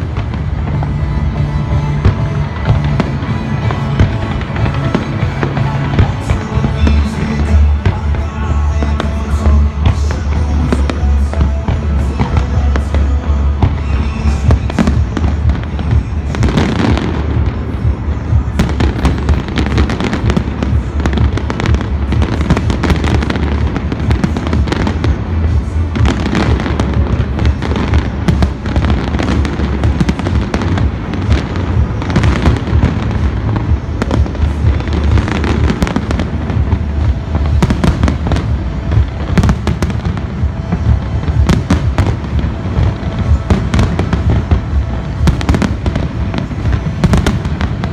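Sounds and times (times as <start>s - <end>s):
fireworks bangs and crackling: 0.0s - 47.9s
low rumble: 0.0s - 47.9s.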